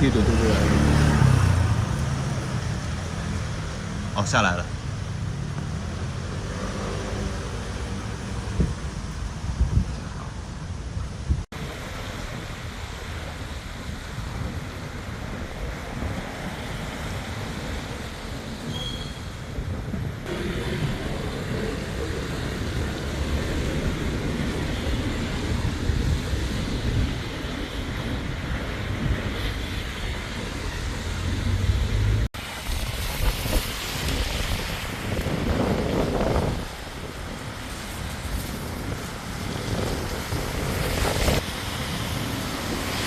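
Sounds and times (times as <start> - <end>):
strong wind buffeting microphone: 0.0 - 43.0.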